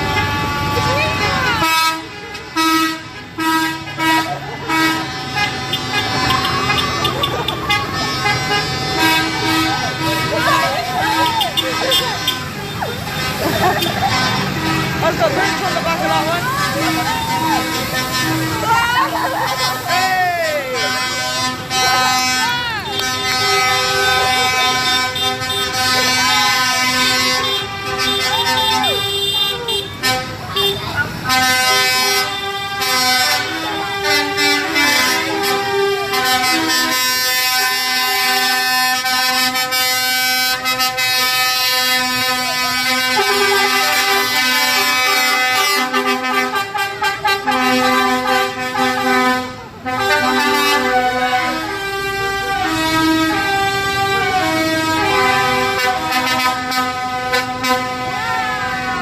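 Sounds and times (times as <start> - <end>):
tractor and truck engines: 0.0 - 59.0
vehicle horns held notes: 0.0 - 59.0.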